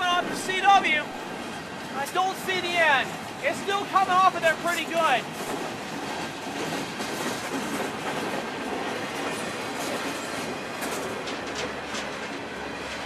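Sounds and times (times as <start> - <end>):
train wheels rumbling on rail: 0.0 - 13.0
wheels clacking over rail joints: 0.0 - 13.0.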